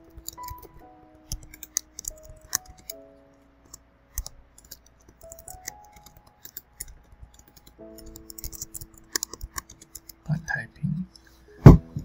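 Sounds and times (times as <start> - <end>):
computer keyboard typing: 0.0 - 10.3
soft background music: 0.0 - 12.0.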